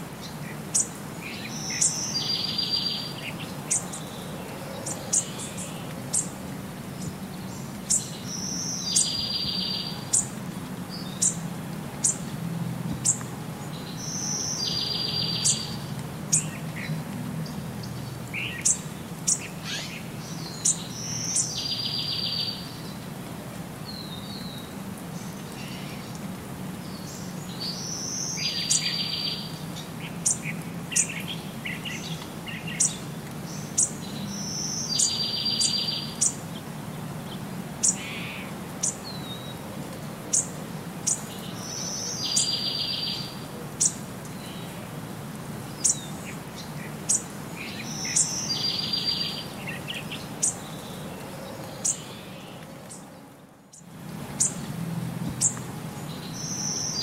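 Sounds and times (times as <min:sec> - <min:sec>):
light rain hiss: 0:00.0 - 0:57.0.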